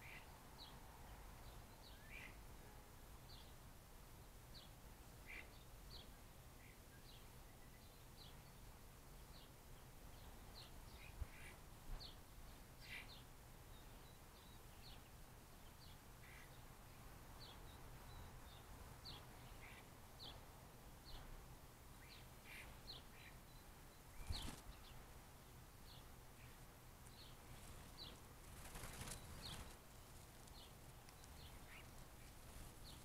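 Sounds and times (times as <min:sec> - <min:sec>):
birds chirping faintly: 0:00.0 - 0:33.0.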